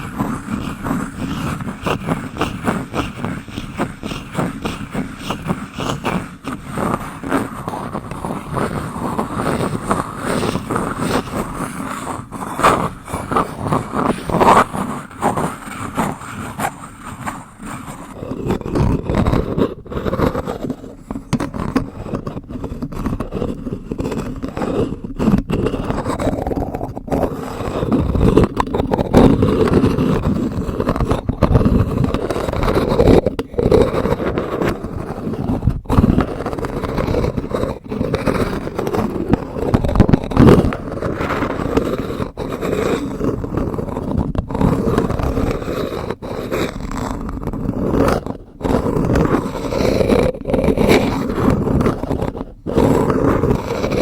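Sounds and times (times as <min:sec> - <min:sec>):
wooden spoon scraping: 0:00.0 - 0:54.0.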